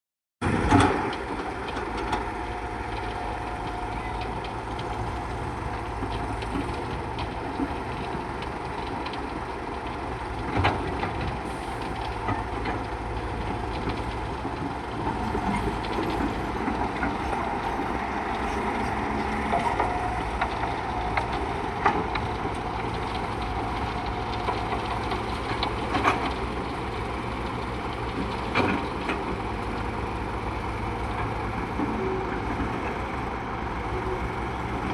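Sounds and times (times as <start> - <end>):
machinery rumbling: 0.4 - 34.9.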